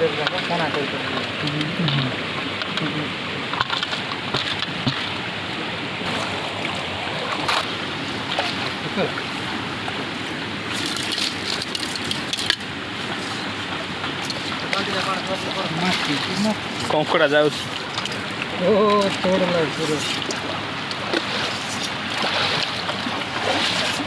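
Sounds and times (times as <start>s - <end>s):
river water running and splashing: 0.0s - 24.0s.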